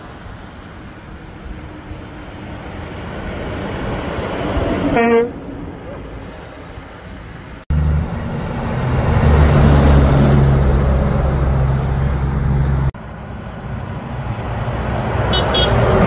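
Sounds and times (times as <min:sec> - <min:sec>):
heavy trucks passing: 0:00.0 - 0:16.0.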